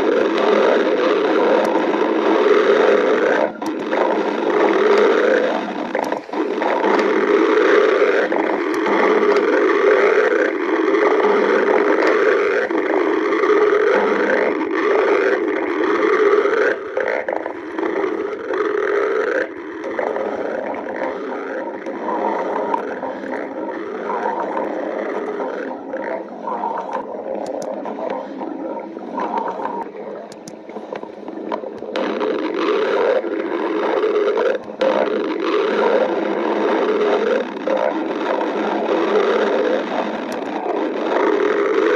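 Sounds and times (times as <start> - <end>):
stomach growling: 0.0 - 41.9.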